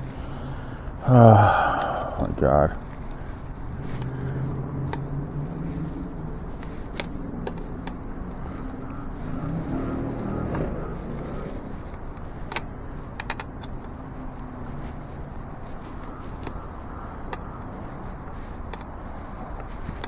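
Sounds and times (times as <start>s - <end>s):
steady low hum: 0.0s - 20.0s
tire levers clicking on rim: 0.0s - 20.0s.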